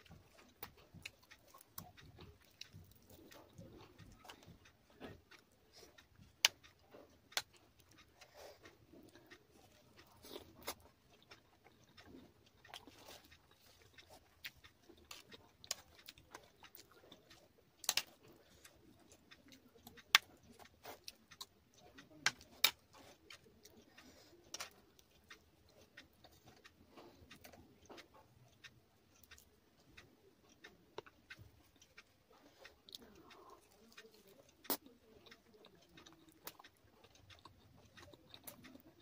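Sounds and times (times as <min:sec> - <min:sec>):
close chewing and mouth clicks: 0:00.0 - 0:39.0.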